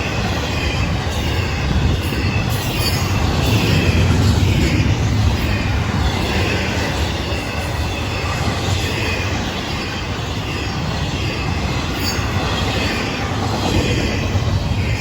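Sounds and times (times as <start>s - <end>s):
train wheels rumbling on rail: 0.0s - 15.0s
high wheel squeal: 0.1s - 15.0s.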